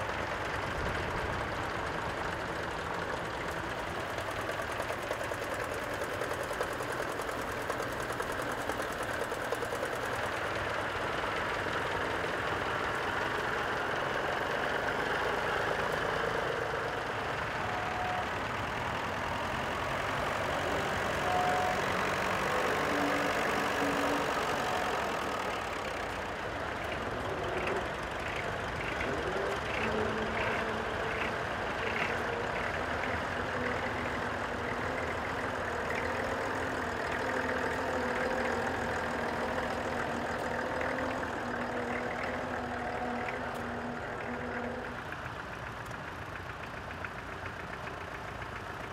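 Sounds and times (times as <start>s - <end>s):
old tractor engines knocking: 0.0s - 48.9s.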